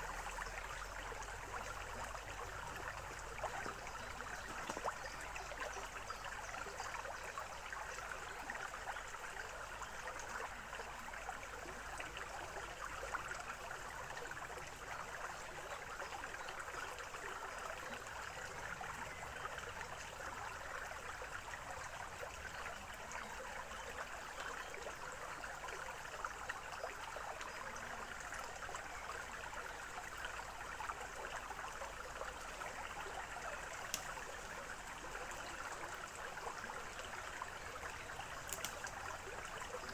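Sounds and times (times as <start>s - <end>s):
stream trickling and bubbling: 0.0s - 39.9s.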